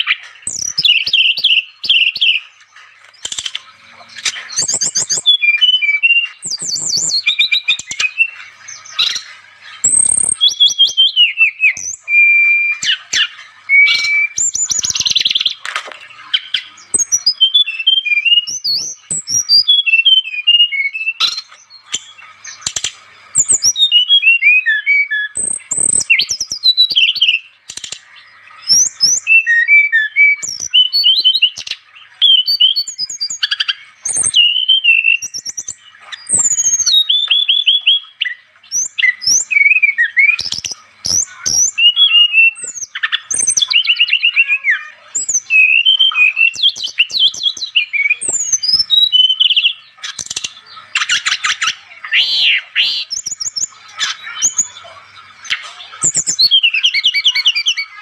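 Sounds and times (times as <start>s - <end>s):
bird singing whistled phrases: 0.0s - 2.6s, 3.2s - 15.6s, 16.2s - 58.0s.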